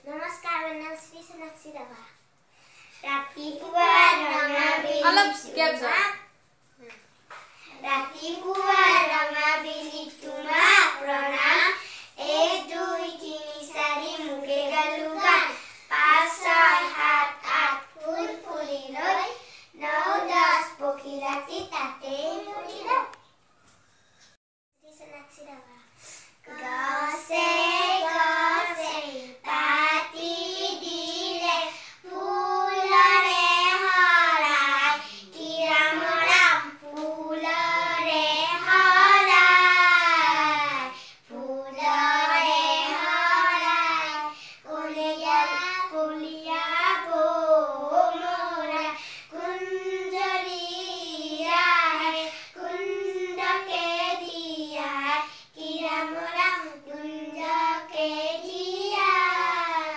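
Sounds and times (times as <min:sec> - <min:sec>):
girls singing unaccompanied: 0:03.0 - 0:05.4, 0:07.7 - 0:23.0, 0:26.4 - 0:59.9.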